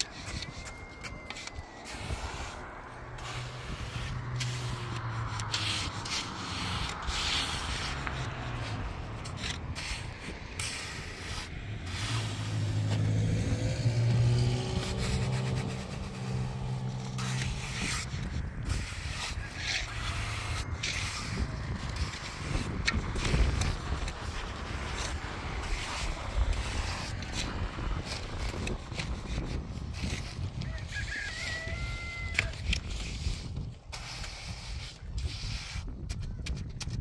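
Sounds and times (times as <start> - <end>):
trowel scraping wet concrete: 0.0 - 37.0
low engine hum: 0.1 - 30.6.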